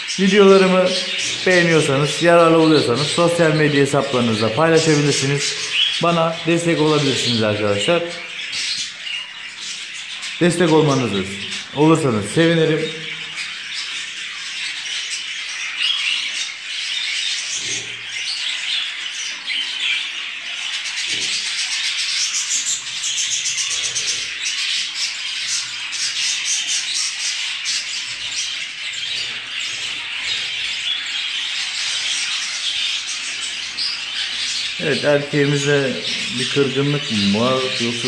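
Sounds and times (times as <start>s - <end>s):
budgerigars chattering: 0.0s - 38.0s.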